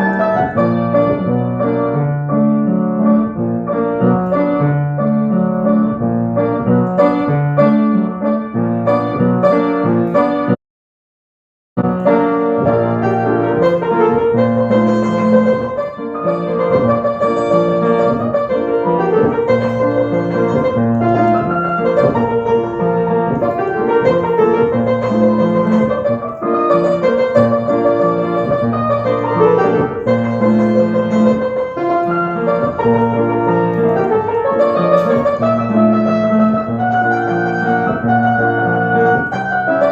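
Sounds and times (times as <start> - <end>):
keyboard piano music: 0.0 - 10.6, 11.8 - 39.9.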